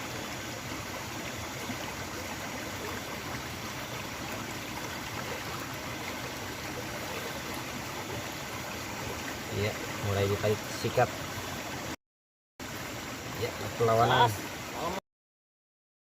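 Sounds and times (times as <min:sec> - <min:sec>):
river water flowing: 0:00.0 - 0:12.0, 0:12.6 - 0:15.0.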